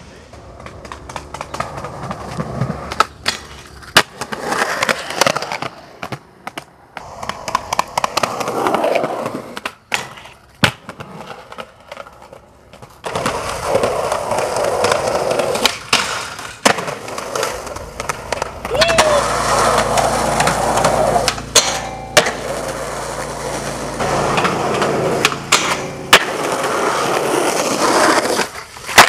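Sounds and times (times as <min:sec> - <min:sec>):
skateboard clacking on ground: 0:00.0 - 0:29.0
skateboard wheels rolling on concrete: 0:00.0 - 0:29.0.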